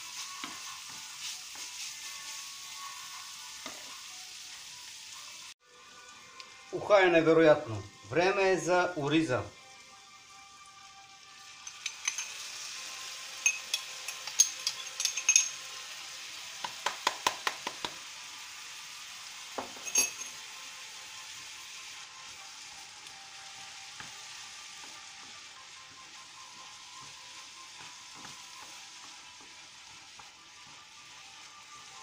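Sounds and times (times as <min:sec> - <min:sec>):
vegetables sizzling in a frying pan: 0:00.0 - 0:32.0.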